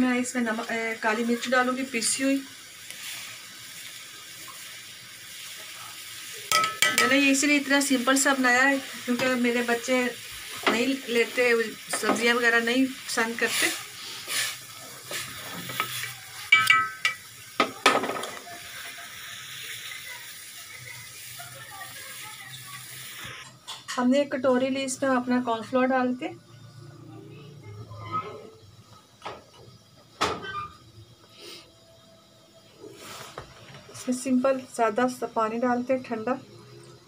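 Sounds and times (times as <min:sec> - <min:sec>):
stock boiling and bubbling: 0:00.0 - 0:37.0.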